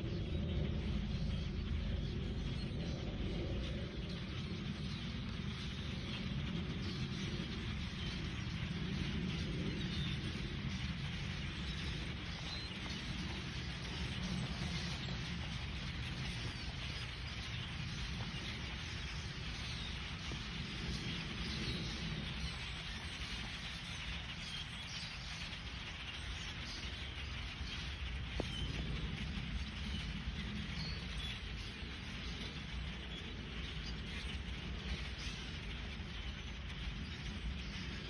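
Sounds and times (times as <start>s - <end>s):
flock of birds calling: 0.0s - 38.0s
low rumble: 0.0s - 38.0s.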